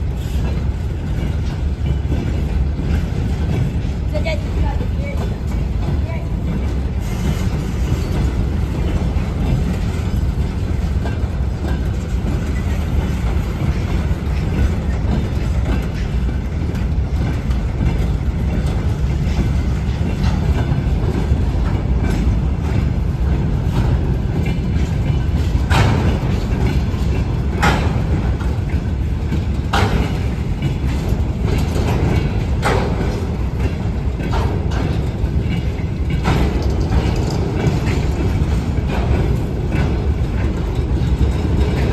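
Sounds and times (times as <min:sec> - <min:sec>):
diesel locomotive engine rumble: 0:00.0 - 0:41.9.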